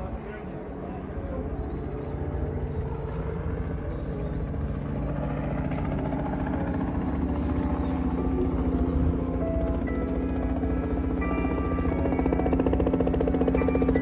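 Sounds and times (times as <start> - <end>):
helicopter rotor beat and engine hum: 0.0 - 14.0.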